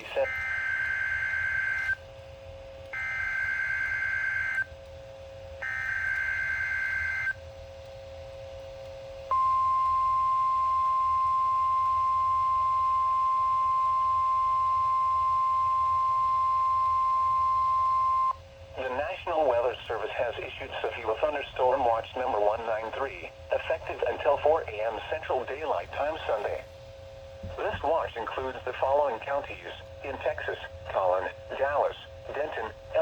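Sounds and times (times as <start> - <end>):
steady warning alarm tone: 0.0 - 33.0.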